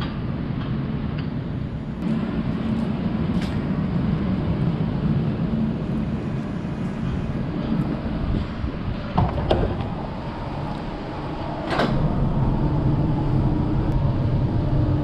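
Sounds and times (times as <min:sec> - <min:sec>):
tram equipment humming: 0:00.0 - 0:15.0
low rumble: 0:01.8 - 0:15.0.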